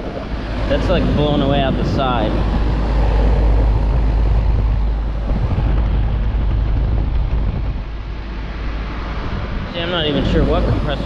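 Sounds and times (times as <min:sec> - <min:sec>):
air conditioner fan blowing: 0:00.0 - 0:11.0
wind buffeting microphone: 0:00.0 - 0:11.0.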